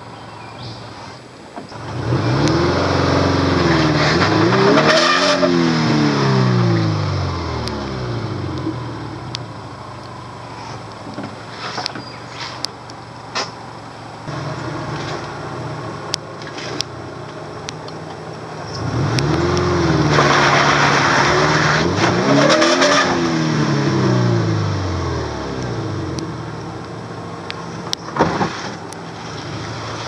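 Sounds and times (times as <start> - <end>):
car engine revving: 1.7 - 12.6, 13.9 - 30.0.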